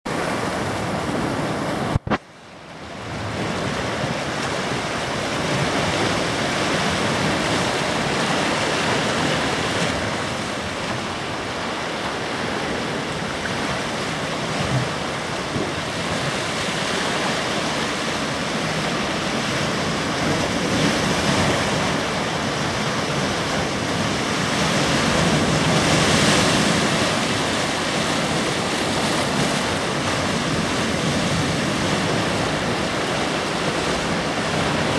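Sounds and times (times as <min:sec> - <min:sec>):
surf breaking on rocks: 0:03.0 - 0:34.9.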